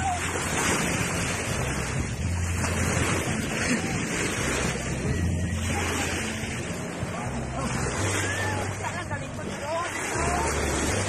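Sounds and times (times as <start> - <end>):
small waves breaking: 0.0 - 11.0.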